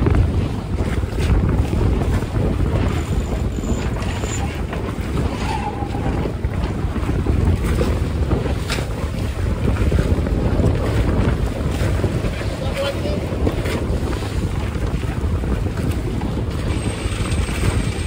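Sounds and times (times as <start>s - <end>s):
sea water wash: 0.0s - 18.0s
wind buffeting microphone: 0.0s - 18.0s.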